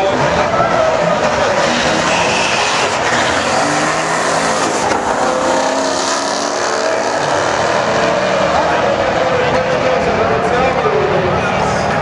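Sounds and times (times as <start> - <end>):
sports car engines at full throttle: 0.0 - 12.0.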